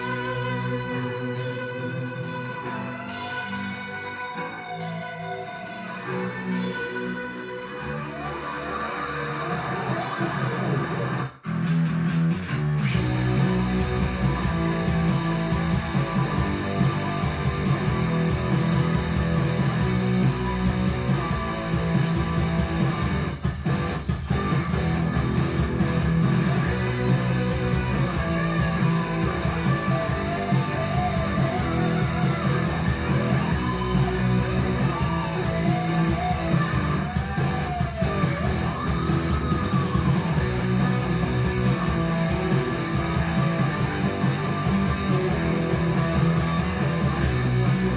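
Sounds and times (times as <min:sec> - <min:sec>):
bass guitar: 0:00.0 - 0:47.9
strummed guitar: 0:00.0 - 0:47.9.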